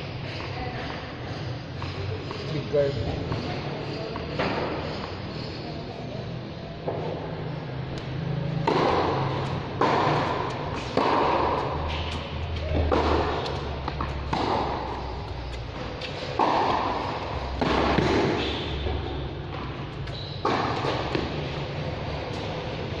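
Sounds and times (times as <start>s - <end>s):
racquets hitting tennis balls: 0.2s - 5.3s, 6.8s - 23.0s.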